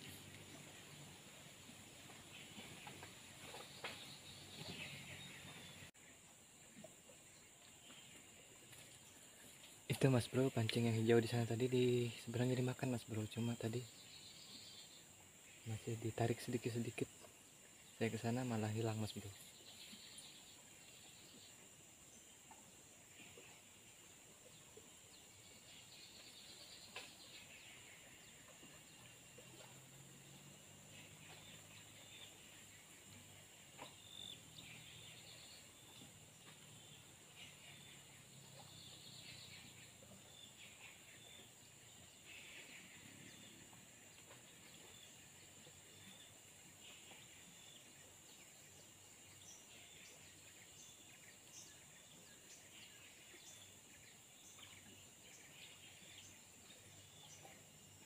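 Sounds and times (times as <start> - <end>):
birds calling: 0.0 - 6.0, 7.5 - 58.0.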